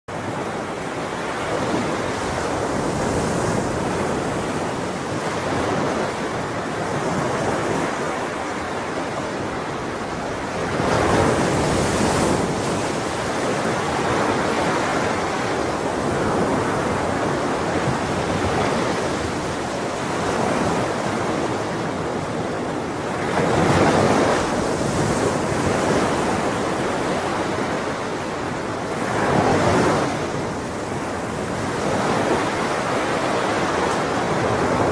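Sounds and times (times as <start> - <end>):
ocean waves breaking on shore: 0.1 - 34.9.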